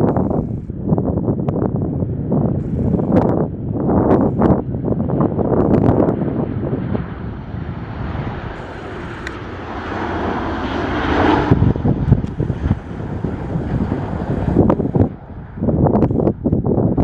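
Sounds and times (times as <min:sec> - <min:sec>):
airliner engines passing overhead: 0:00.0 - 0:17.0
wind buffeting microphone: 0:00.0 - 0:17.0.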